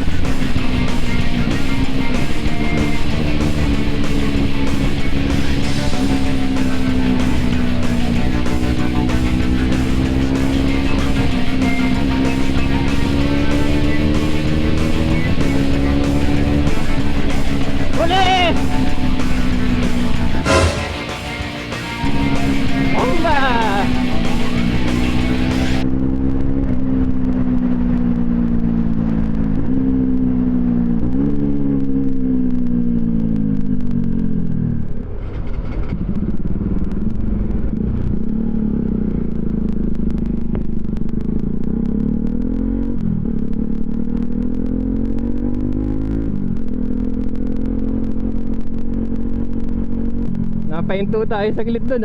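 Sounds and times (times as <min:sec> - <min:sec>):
motorcycle engine changing gear: 0:00.0 - 0:20.5, 0:21.9 - 0:50.7.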